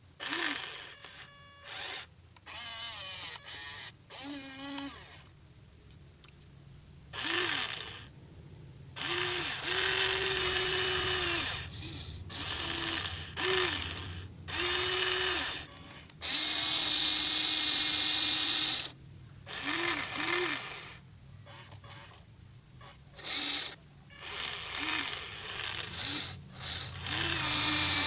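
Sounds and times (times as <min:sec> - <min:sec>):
small electric motors whining: 0:00.2 - 0:05.4, 0:07.1 - 0:08.1, 0:09.0 - 0:28.0.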